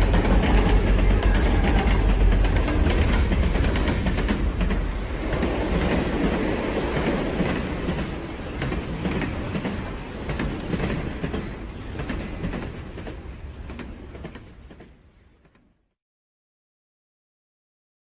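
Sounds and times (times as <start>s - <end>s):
train wheels clicking on track: 0.0s - 15.7s.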